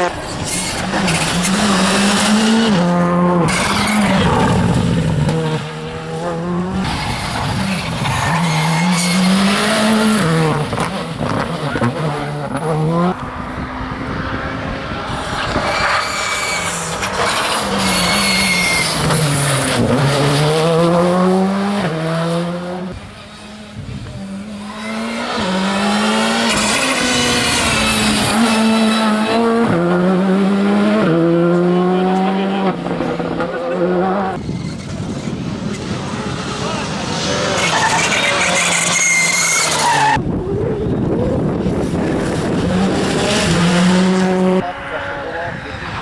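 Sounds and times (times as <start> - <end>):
rally cars passing: 0.0 - 46.0.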